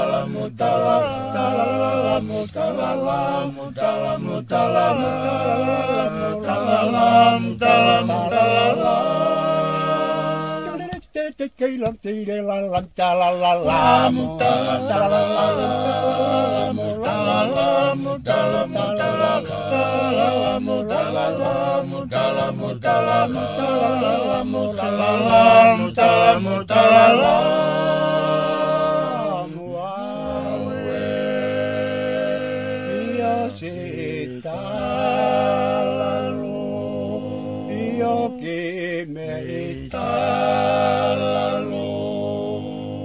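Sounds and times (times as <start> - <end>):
men singing in harmony: 0.0 - 43.0.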